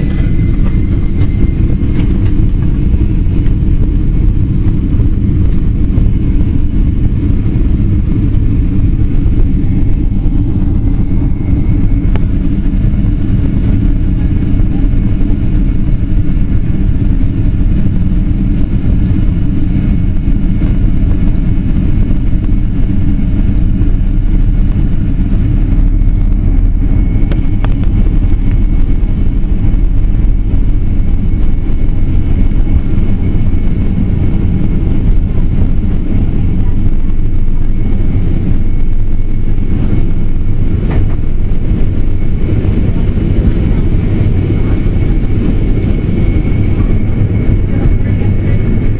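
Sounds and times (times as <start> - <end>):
jet engines rumbling in cabin: 0.0 - 48.9
rushing air: 0.0 - 48.9.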